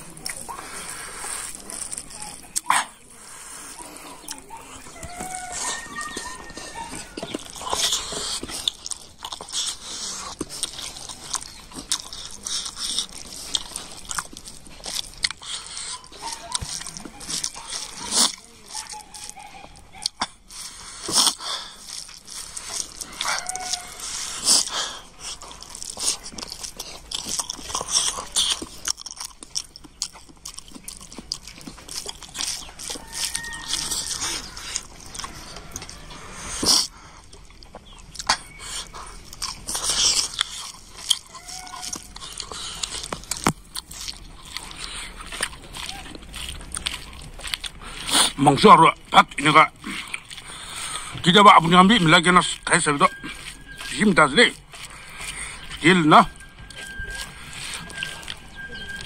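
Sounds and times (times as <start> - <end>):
man chewing food: 0.0 - 59.0
mouth clicks and smacks: 0.0 - 59.0.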